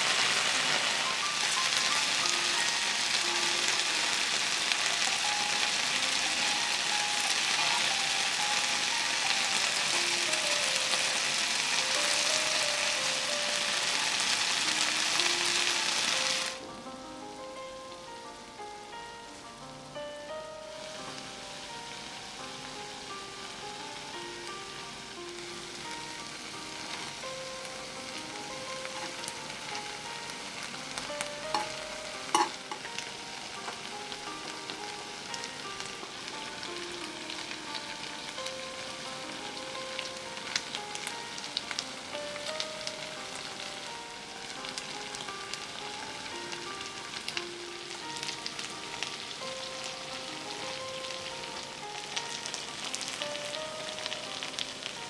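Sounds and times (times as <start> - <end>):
food sizzling in a skillet: 0.0 - 55.0
soft background melody: 0.0 - 55.0.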